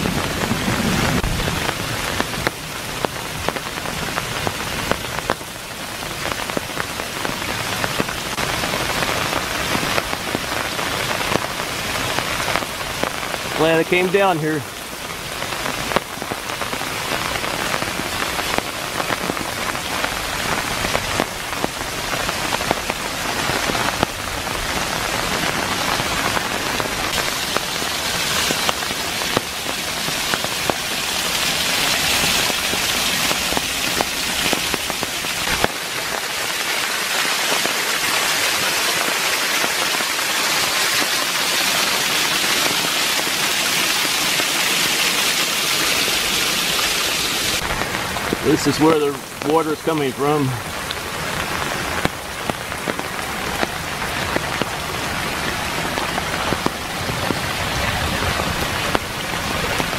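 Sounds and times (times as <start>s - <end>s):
rain falling: 0.0s - 59.9s
waterfall splashing onto stones: 0.0s - 59.9s.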